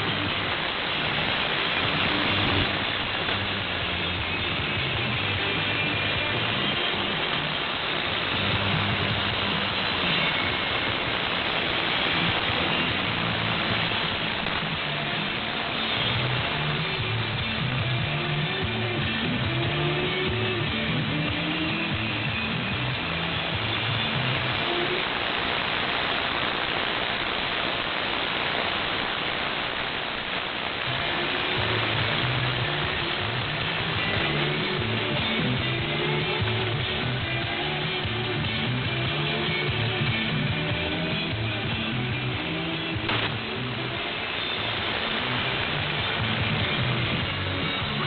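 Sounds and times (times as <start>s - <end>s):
faint rock music: 0.0s - 48.0s
radio static hiss: 0.0s - 48.0s.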